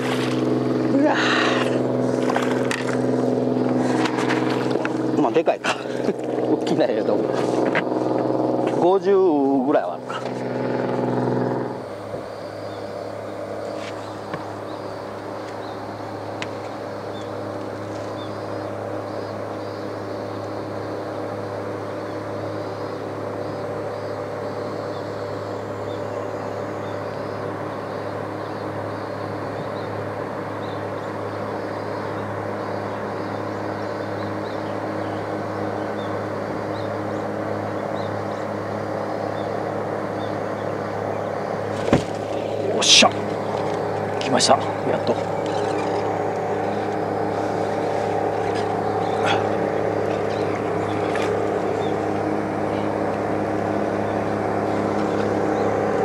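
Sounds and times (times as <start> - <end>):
motor running steadily: 0.0 - 56.0.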